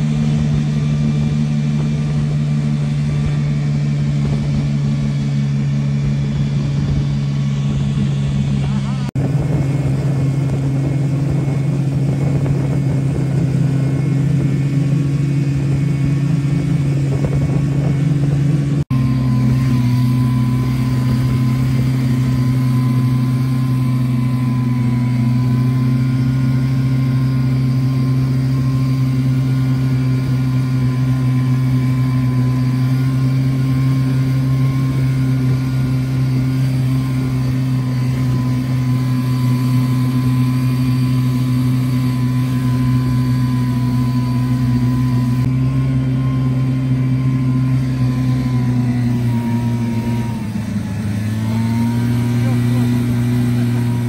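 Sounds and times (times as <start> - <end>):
snowmobile engine cruising: 0.0 - 54.0.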